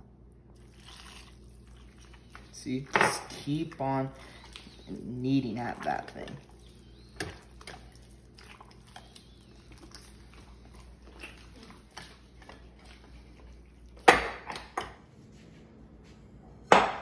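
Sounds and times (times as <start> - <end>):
hands kneading wet dough: 0.5 - 15.0.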